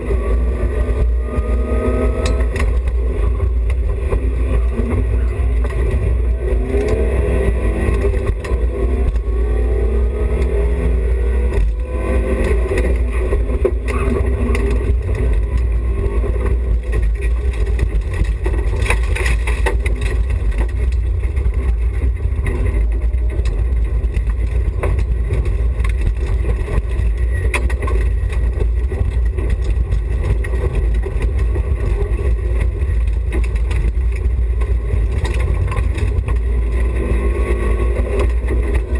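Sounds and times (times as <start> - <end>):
rally car engine revving: 0.0 - 38.9
steady low rumble: 0.0 - 38.9.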